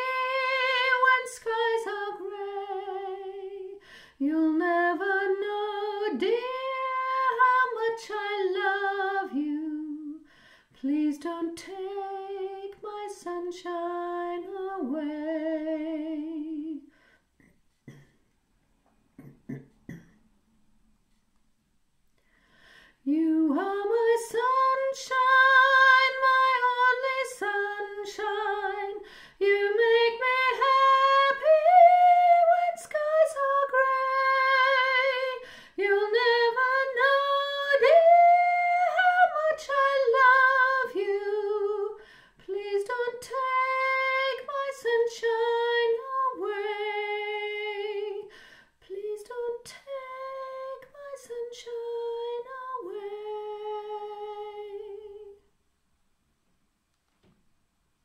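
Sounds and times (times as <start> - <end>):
woman singing soprano: 0.0 - 16.9, 23.0 - 55.4.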